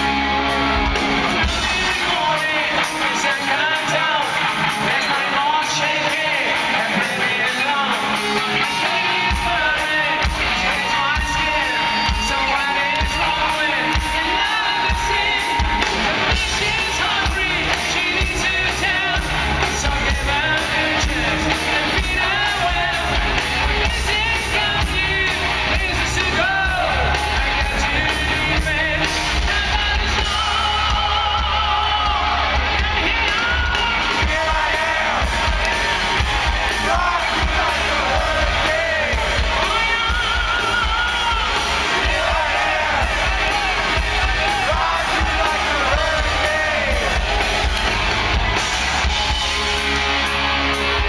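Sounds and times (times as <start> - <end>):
crowd yelling: 0.0 - 51.0
live hard rock band: 0.0 - 51.0
lead singer vocals: 0.7 - 48.5.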